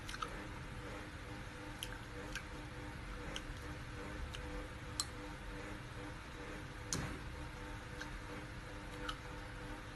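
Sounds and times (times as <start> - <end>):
faint steady hum: 0.0 - 9.9.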